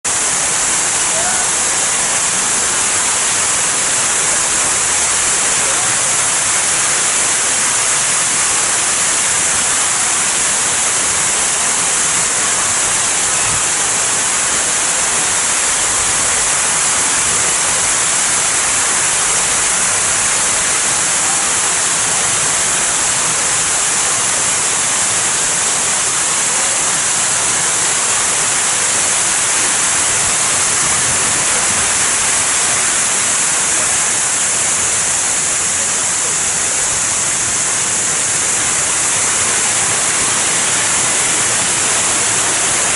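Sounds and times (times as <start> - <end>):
waterfall and fountain splashing: 0.0 - 42.9.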